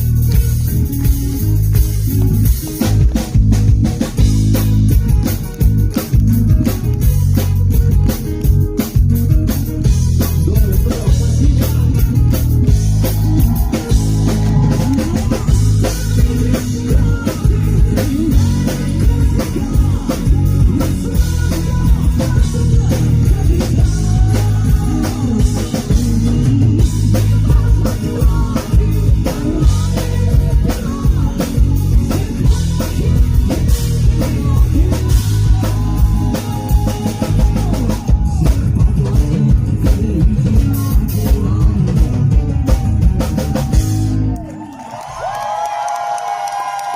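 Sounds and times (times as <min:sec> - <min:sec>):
drum kit steady beat: 0:00.0 - 0:44.4
guitars: 0:00.0 - 0:46.9
live acoustic rock band: 0:00.0 - 0:46.9.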